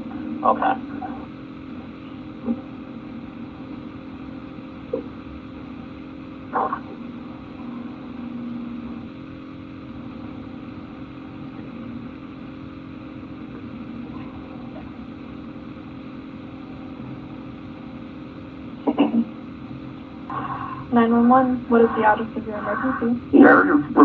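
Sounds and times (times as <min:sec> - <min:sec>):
telephone line hum and hiss: 0:00.0 - 0:24.0.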